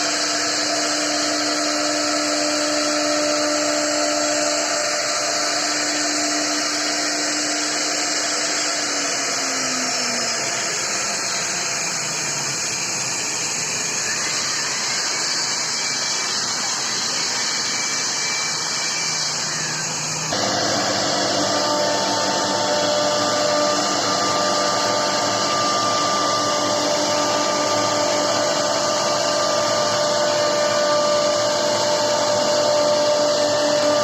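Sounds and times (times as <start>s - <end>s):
router spindle cutting wood: 0.0s - 34.0s.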